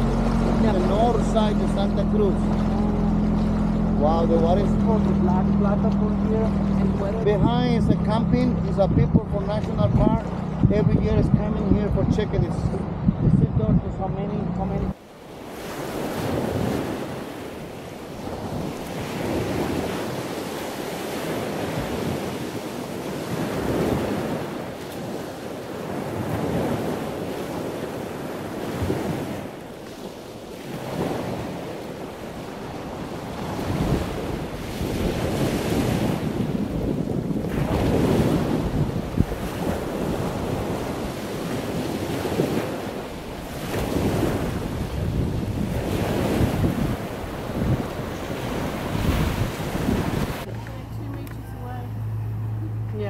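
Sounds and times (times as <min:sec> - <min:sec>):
sea waves washing in: 0:00.0 - 0:13.0, 0:14.6 - 0:53.0
wind on microphone: 0:00.0 - 0:51.9.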